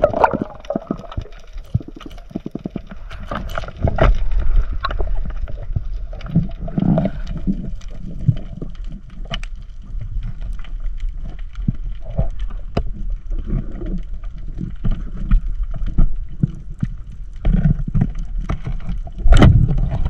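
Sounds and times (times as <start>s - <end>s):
low underwater rumble: 0.0s - 20.0s
underwater clicks and crackles: 0.0s - 20.0s.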